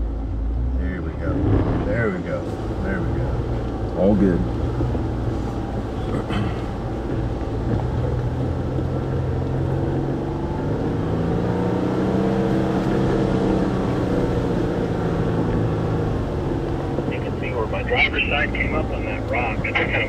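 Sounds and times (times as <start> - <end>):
jeep engine running under load: 0.0 - 20.0.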